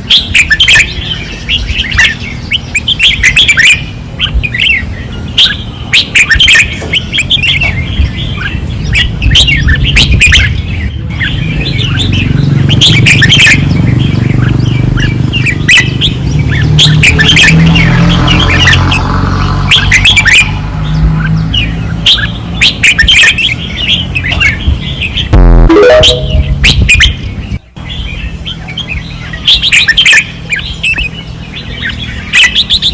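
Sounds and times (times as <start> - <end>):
bulbuls singing: 0.0 - 32.9.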